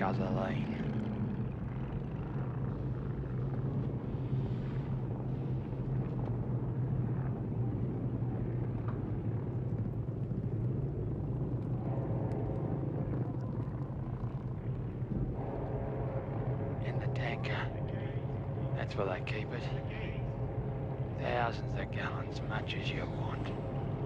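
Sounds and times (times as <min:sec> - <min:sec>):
distant vehicle engines droning: 0:00.0 - 0:24.0.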